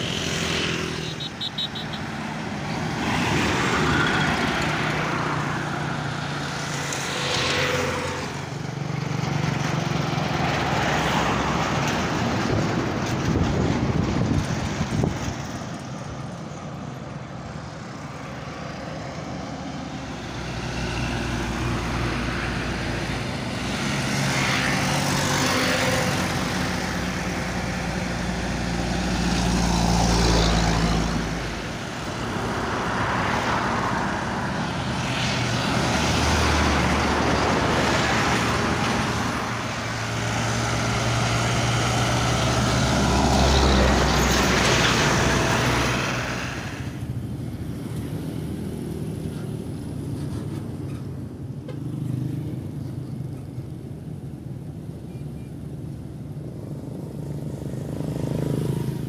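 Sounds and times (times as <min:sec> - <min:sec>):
vehicles passing on highway: 0:00.0 - 0:59.0.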